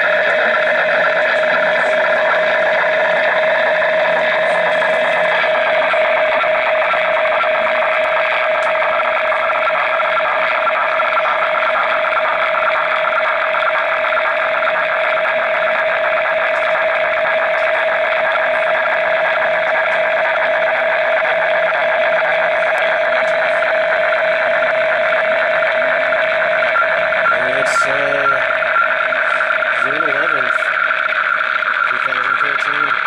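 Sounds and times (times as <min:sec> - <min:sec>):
steady radio tone: 0:00.0 - 0:33.0.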